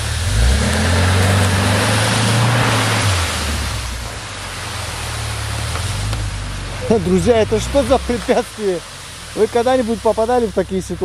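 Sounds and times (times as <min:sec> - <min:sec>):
engine revving under load: 0:00.0 - 0:10.6
rushing noise: 0:00.0 - 0:11.0.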